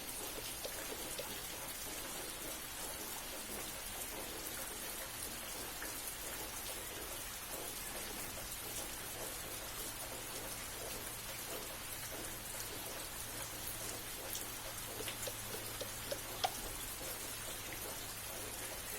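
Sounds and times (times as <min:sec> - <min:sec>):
sharp water drips: 0:00.0 - 0:18.9
steady rain falling: 0:00.0 - 0:18.9.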